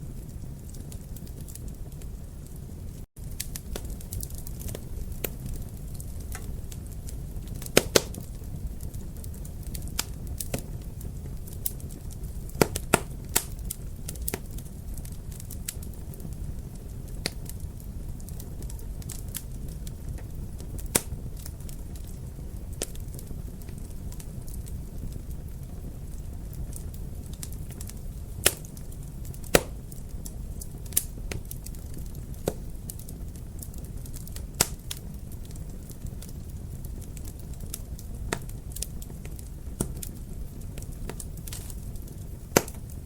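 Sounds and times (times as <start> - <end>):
fire pops: 0.0 - 43.0
wood fire crackling: 0.0 - 43.0.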